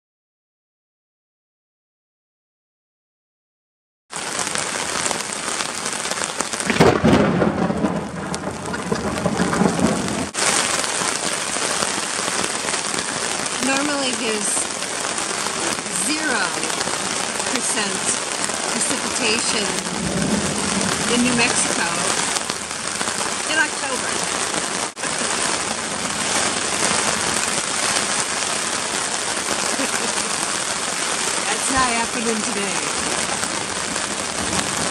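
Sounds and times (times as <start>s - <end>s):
heavy rain on a tent: 4.1s - 34.9s
thunder clap: 5.0s - 14.6s, 15.7s - 34.9s.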